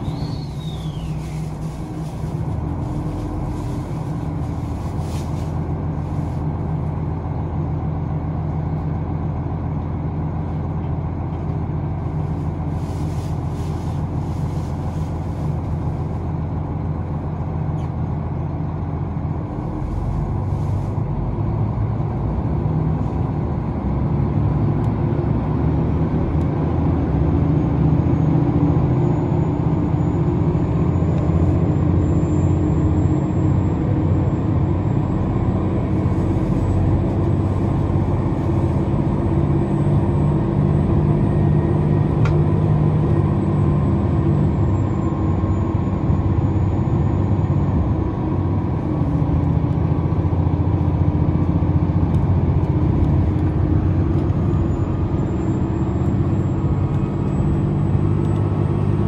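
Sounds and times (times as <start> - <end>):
train engine and wheels on rail: 0.0 - 59.0.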